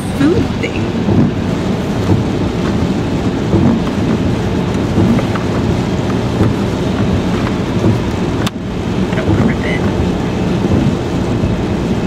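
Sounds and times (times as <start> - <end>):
heavy rain drumming on car roof: 0.0 - 12.0
wet road tyre noise: 0.0 - 12.0.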